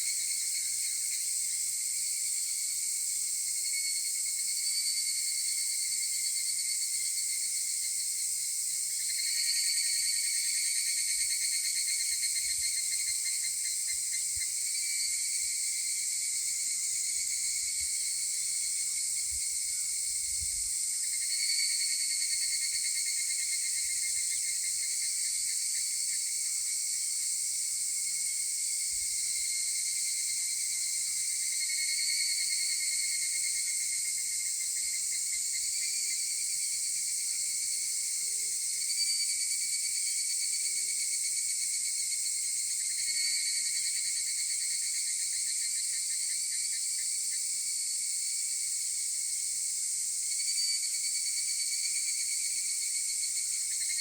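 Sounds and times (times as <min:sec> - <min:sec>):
cicadas trilling: 0:00.0 - 0:54.0
high hiss of insect chorus: 0:00.0 - 0:54.0.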